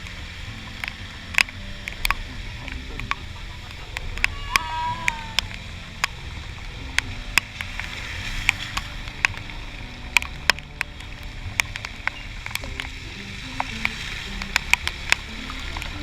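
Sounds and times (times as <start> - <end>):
raindrops tapping camera housing: 0.0 - 16.0
scooter engine: 0.0 - 16.0
wind rushing over microphone: 0.0 - 16.0.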